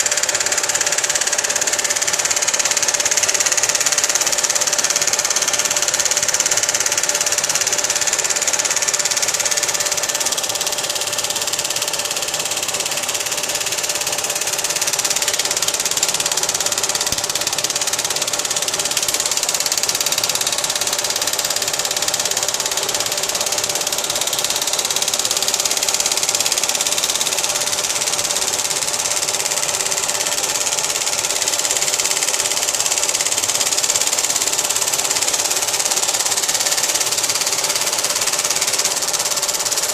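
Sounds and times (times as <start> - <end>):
lathe running: 0.0 - 39.9.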